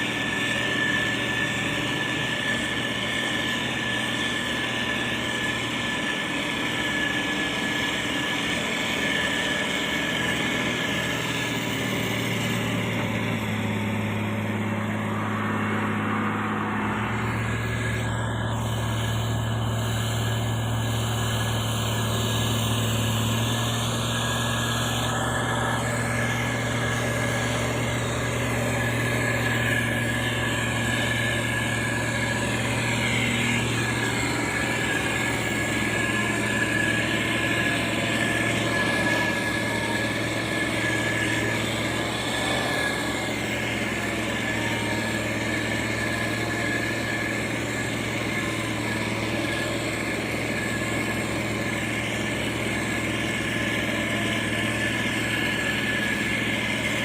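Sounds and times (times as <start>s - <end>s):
diesel engine humming: 0.0s - 57.0s
thin steady whine: 0.0s - 57.0s.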